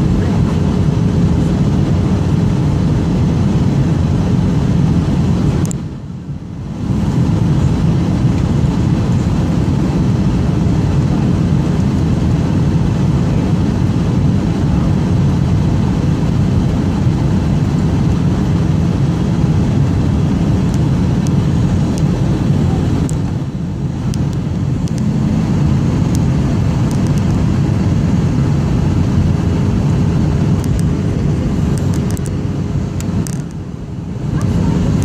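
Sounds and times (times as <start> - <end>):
jet engine roar in cabin: 0.0 - 35.0.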